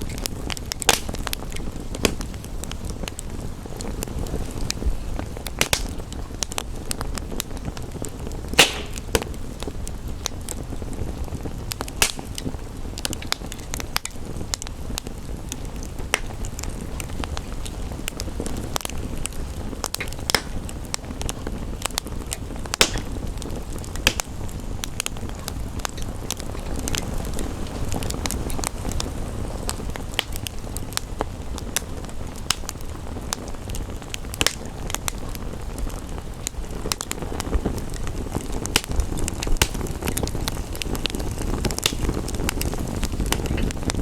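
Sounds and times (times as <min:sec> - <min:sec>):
rain: 0:00.0 - 0:44.0
wood fire crackling and popping: 0:00.0 - 0:44.0.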